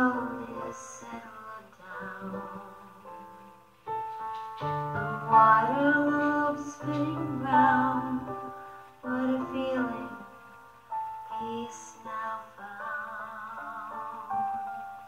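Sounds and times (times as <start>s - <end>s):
person singing: 0.0s - 3.5s, 4.8s - 10.4s, 11.3s - 15.0s
piano notes: 0.0s - 15.0s.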